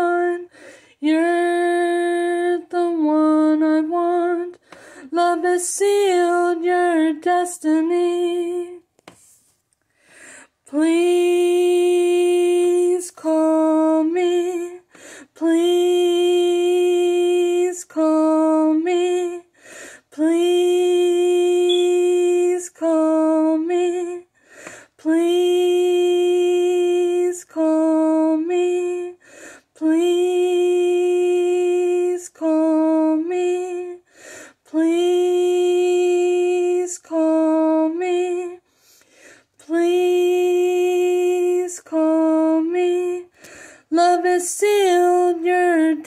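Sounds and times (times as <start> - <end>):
woman singing unaccompanied: 0.0 - 8.9, 10.6 - 24.3, 24.9 - 38.7, 39.6 - 46.0.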